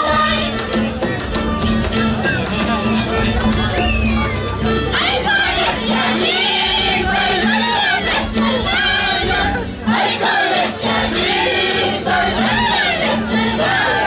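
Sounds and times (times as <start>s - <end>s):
group singing: 0.0s - 1.5s, 2.5s - 14.0s
instrumental accompaniment: 0.0s - 14.0s.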